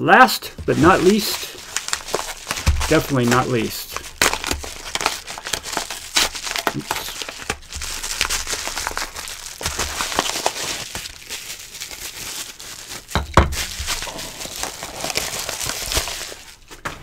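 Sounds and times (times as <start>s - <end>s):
plastic wrapping rustling: 0.2s - 17.0s
paper mailer crinkling and tearing: 0.4s - 16.9s.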